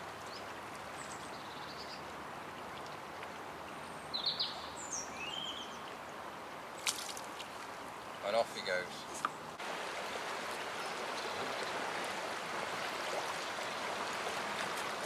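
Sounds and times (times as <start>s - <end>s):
shallow river water flowing: 0.0s - 15.0s.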